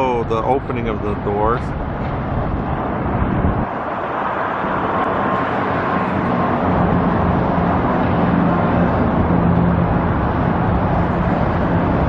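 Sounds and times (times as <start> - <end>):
low engine hum: 0.0 - 12.0
passing traffic rush: 0.0 - 12.0.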